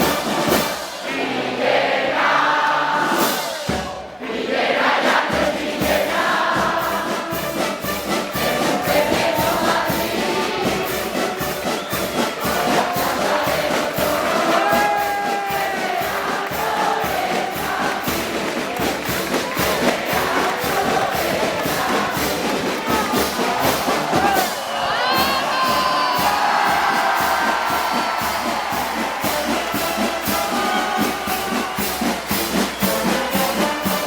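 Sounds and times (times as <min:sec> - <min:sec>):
band music with fast beat: 0:00.0 - 0:01.0, 0:05.1 - 0:34.0
crowd singing: 0:00.0 - 0:34.0.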